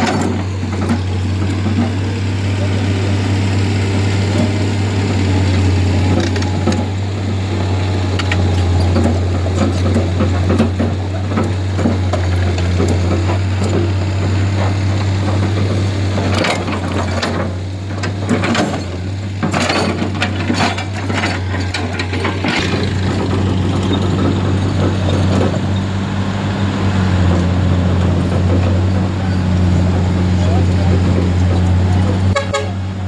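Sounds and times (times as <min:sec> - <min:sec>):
clattering knocks and rattles: 0:00.0 - 0:02.3, 0:05.4 - 0:32.4
vehicle engine running: 0:00.0 - 0:33.0.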